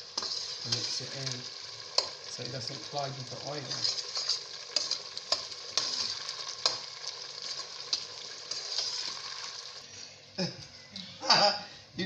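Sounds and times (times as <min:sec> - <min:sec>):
sauce sizzling in a pot: 0:00.0 - 0:10.2.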